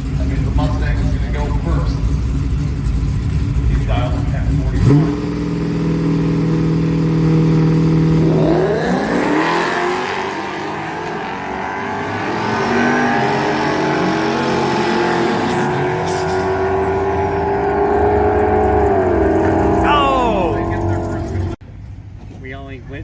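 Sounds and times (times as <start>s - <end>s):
drag racing cars revving: 0.0s - 21.6s
racing cars launching: 0.0s - 21.6s.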